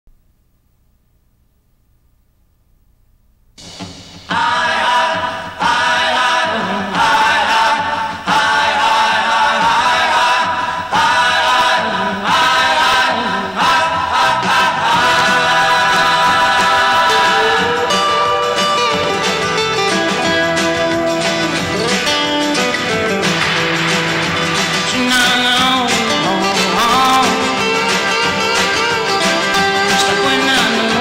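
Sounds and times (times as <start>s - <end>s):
theme music with singing voices: 3.7s - 31.0s.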